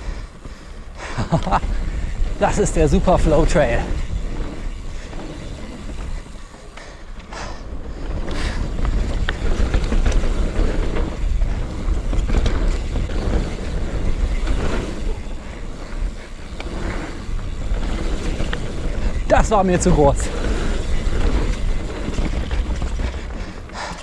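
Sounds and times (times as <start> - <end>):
bike tyres rolling on soil: 0.0 - 24.0
bike knocks and rattles: 1.2 - 24.0.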